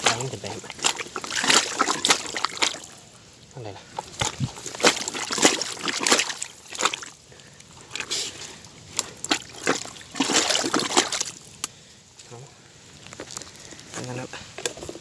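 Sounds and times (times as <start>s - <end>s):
water and mud splashing: 0.0s - 12.2s.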